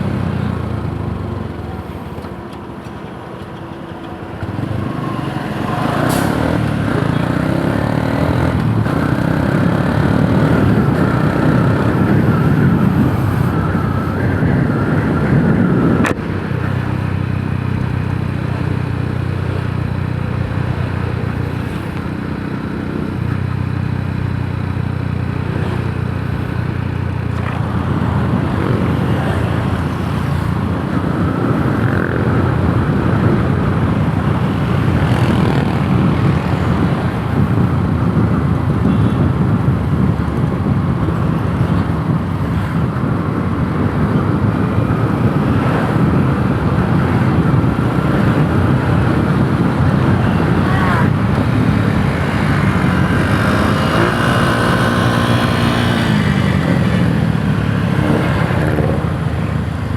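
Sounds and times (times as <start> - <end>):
motorcycle engine running: 4.4 - 59.9.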